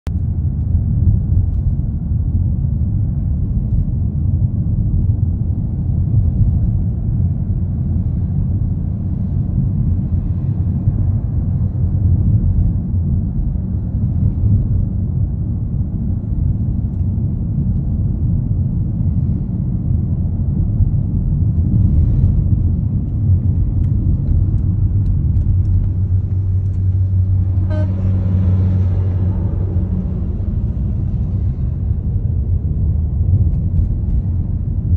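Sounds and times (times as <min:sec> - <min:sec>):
car cabin road rumble: 0:00.0 - 0:34.9.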